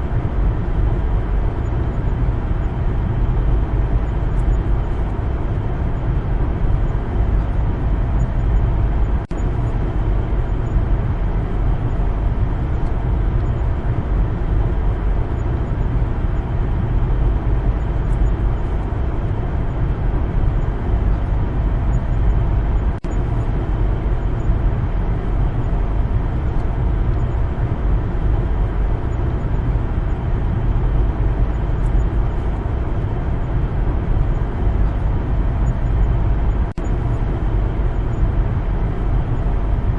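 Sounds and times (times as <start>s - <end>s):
car driving on road rumble: 0.0s - 39.9s.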